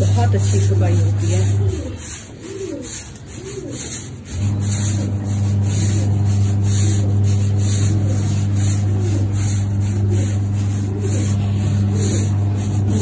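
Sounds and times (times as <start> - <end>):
electric motor humming: 0.0 - 13.0
pigeons cooing: 0.0 - 13.0
push broom scrubbing wet carpet: 0.0 - 13.0.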